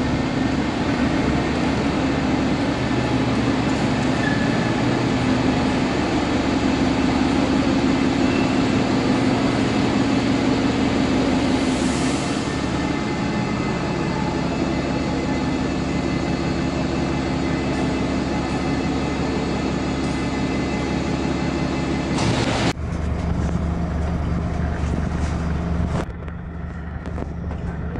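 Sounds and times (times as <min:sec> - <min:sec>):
bus diesel engine running: 0:00.0 - 0:27.9
deep engine hum: 0:00.0 - 0:27.9.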